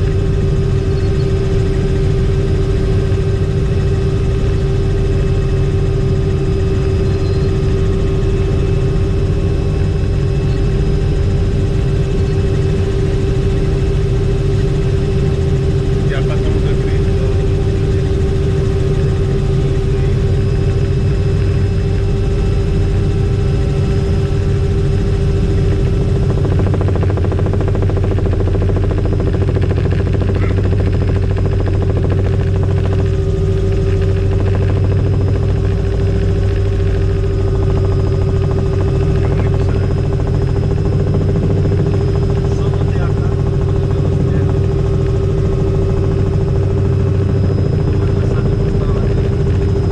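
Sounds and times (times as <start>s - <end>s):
helicopter rotor and turbine drone: 0.0s - 49.9s.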